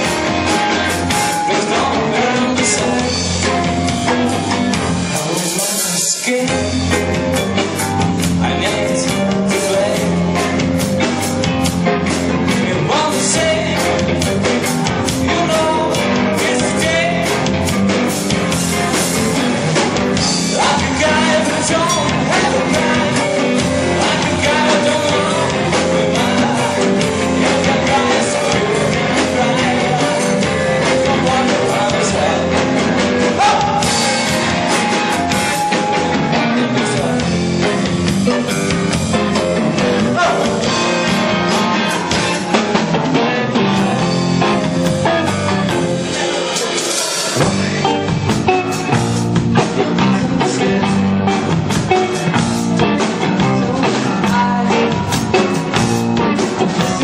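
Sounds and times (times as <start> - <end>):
drum kit: 0.0 - 57.0
electric guitar: 0.0 - 57.0
man singing: 0.0 - 57.0.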